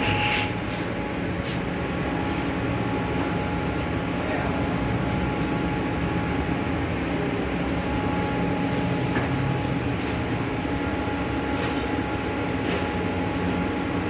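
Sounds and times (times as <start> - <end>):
laminating machine rumble and hum: 0.0 - 14.0.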